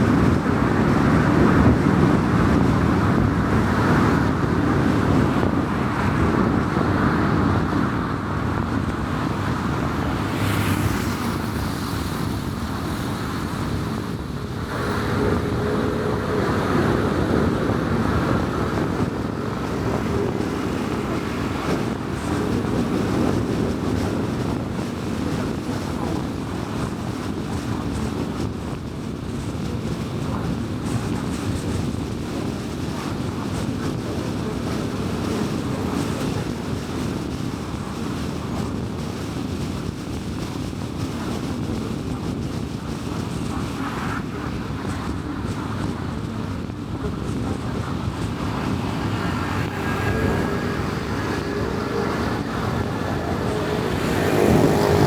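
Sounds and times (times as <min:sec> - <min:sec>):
car tyre and wind noise: 0:00.0 - 0:55.0.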